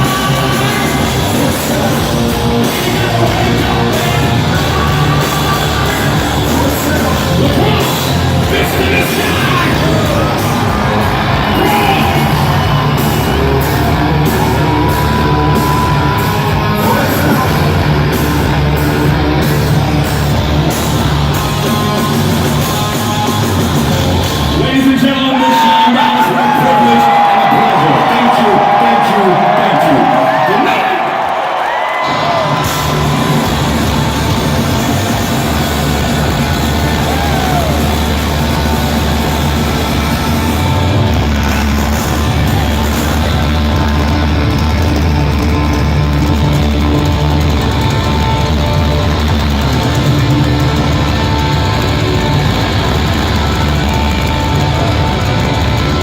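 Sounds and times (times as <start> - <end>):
live rock band playing: 0.0 - 30.7, 31.4 - 56.0
yelled vocals: 0.0 - 56.0.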